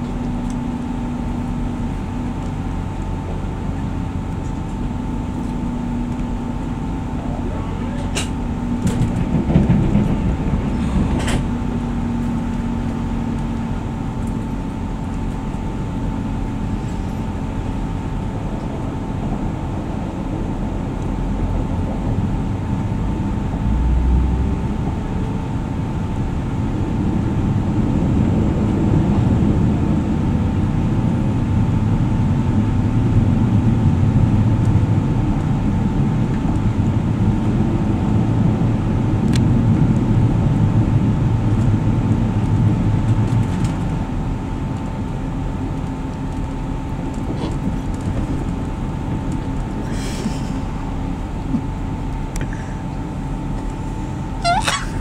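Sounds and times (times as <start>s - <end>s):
diesel engines running: 0.0s - 55.0s
steady whine: 0.0s - 55.0s
wheels rumbling on rails: 0.0s - 55.0s.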